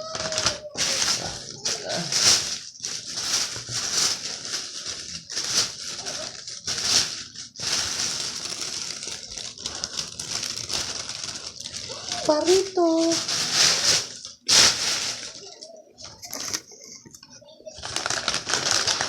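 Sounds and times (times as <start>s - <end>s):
food wrapper crinkling: 0.0s - 19.0s.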